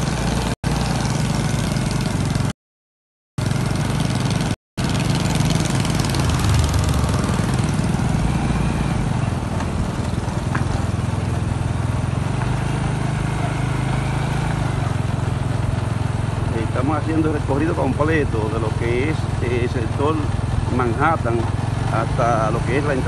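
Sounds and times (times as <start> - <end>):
motorcycle engine running: 0.0 - 2.5, 3.4 - 23.0.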